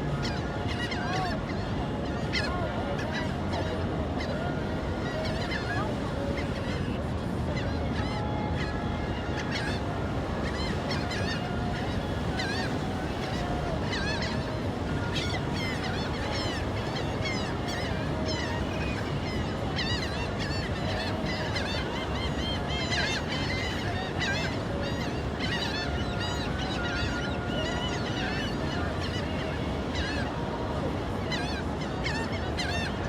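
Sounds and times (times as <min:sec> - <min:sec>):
gulls calling: 0:00.0 - 0:33.0
low background rush: 0:00.0 - 0:33.0.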